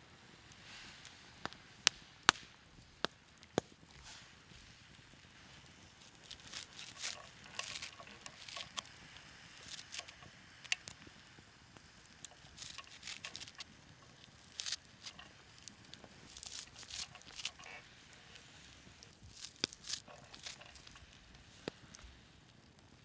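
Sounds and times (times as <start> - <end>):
crackling and rustling: 0.0 - 23.0.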